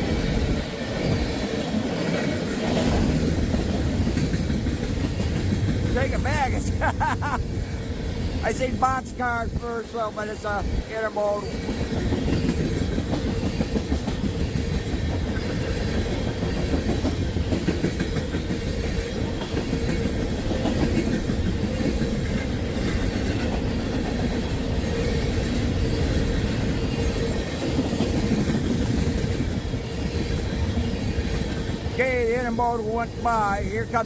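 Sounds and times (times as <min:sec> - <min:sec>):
wheels clacking over rail joints: 0:00.0 - 0:06.0, 0:10.7 - 0:33.2
freight train cars rumbling: 0:00.0 - 0:34.0.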